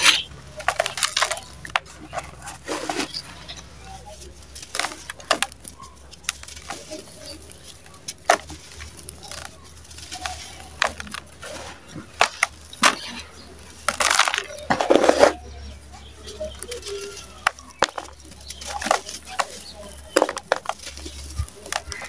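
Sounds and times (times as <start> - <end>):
cement chunks crushed by hand: 0.0 - 15.6, 16.3 - 22.0.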